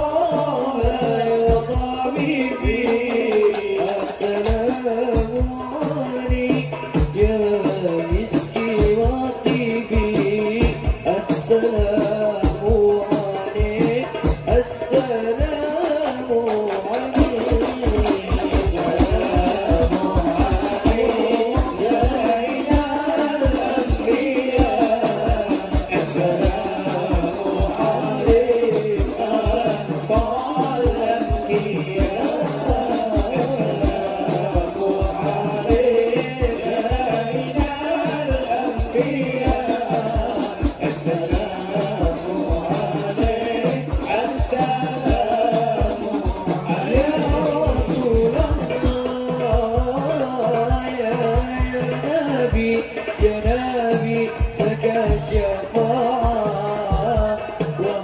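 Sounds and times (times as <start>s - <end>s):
frame drums beating: 0.0s - 58.0s
men singing together: 0.0s - 58.0s.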